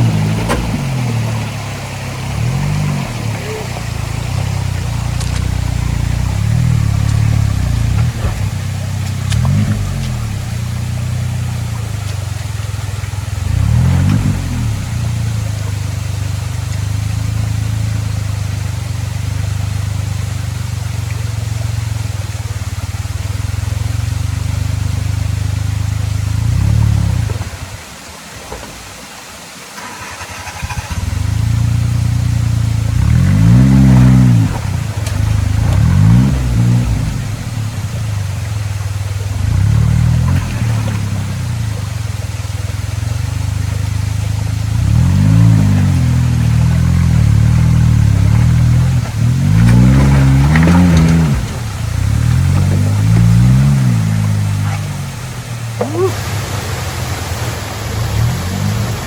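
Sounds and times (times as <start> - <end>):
car engine revving: 0.0 - 27.8, 29.8 - 59.0.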